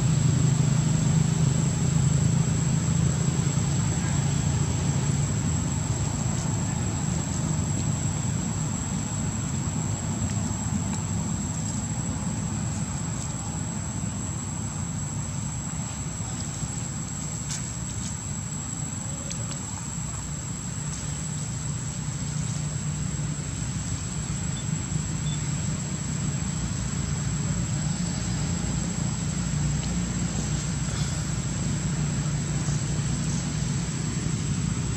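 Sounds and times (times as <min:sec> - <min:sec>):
constant low rumble: 0:00.0 - 0:34.9.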